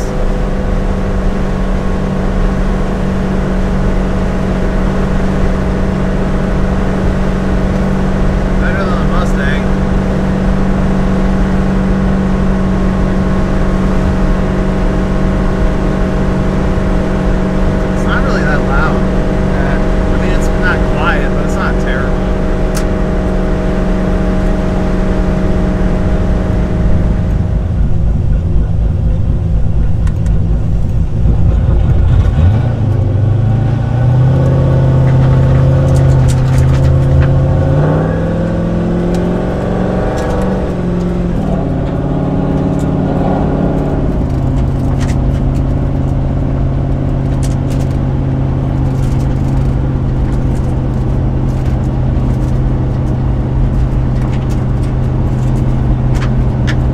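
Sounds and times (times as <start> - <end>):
car engine running from inside: 0.0 - 56.9.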